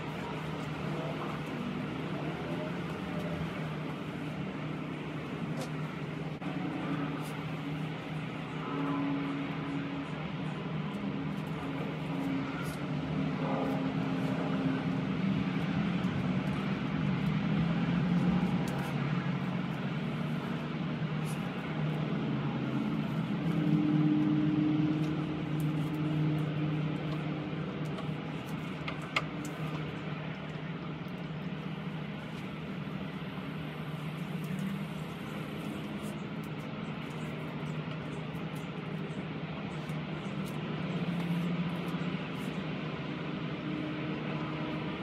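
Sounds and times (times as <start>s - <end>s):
vehicle engine humming: 0.0s - 45.0s.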